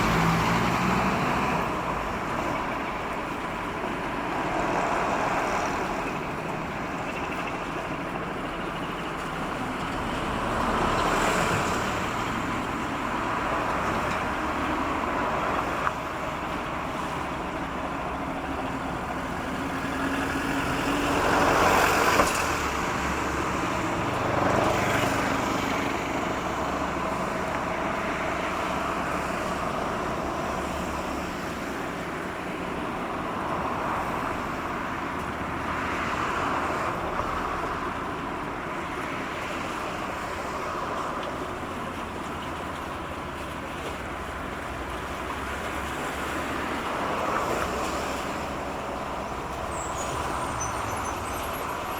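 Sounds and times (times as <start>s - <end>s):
cars and trucks passing: 0.0s - 51.9s
steady traffic rumble: 0.0s - 51.9s.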